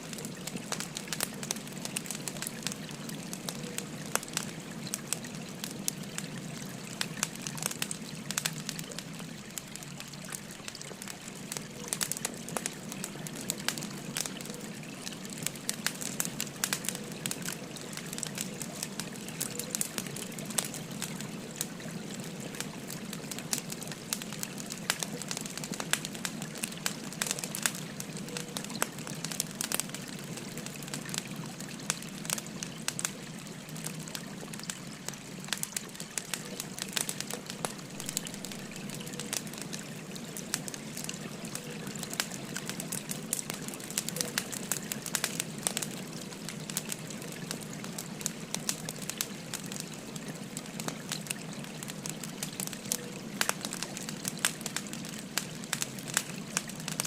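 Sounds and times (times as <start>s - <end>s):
stream flowing: 0.0s - 57.0s
wood fire crackling: 0.0s - 57.0s.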